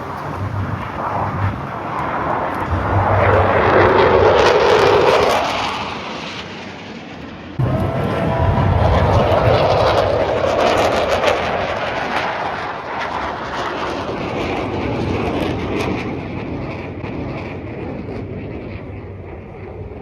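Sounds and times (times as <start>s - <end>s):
jet aircraft passing: 0.0s - 20.0s.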